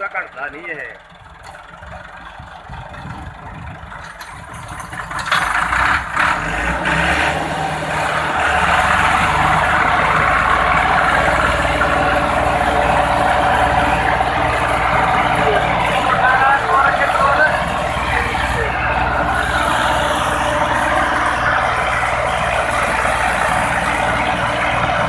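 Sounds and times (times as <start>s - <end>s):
tractor engines under heavy load: 0.0s - 25.0s.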